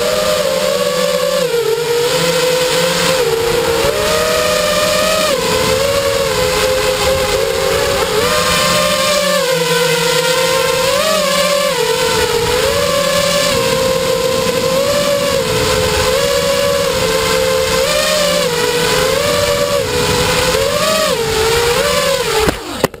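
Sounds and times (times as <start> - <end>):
rc helicopter motor whine: 0.0 - 23.0.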